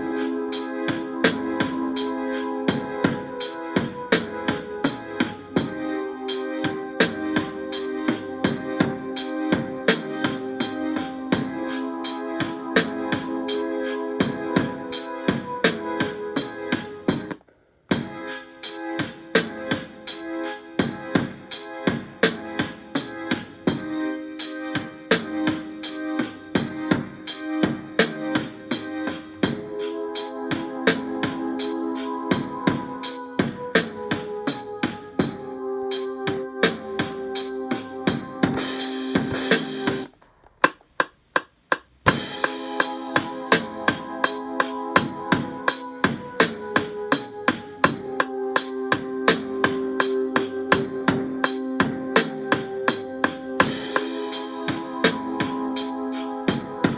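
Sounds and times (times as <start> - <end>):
drum machine beat: 0.0 - 20.2, 20.8 - 56.9
sustained keyboard notes: 0.0 - 40.1, 41.8 - 56.9.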